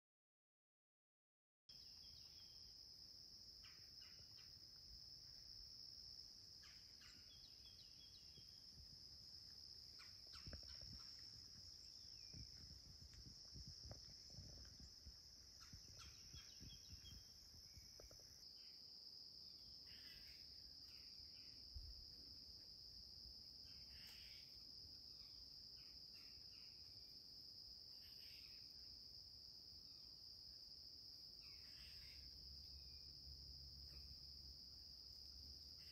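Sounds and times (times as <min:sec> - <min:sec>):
insect chorus trilling: 0:01.7 - 0:35.9.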